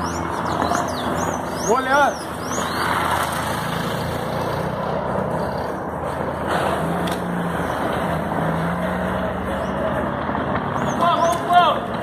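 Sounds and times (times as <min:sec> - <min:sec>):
street noise: 0:00.0 - 0:12.0
vehicle engine running: 0:00.0 - 0:12.0.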